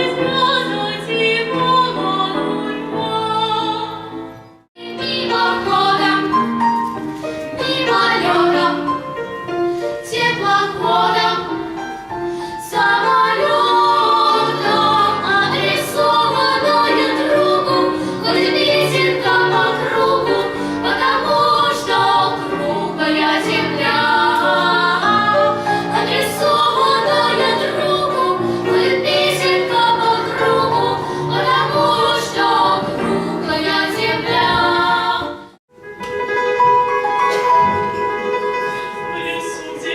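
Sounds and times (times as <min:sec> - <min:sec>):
singers with musical accompaniment: 0:00.0 - 0:35.6.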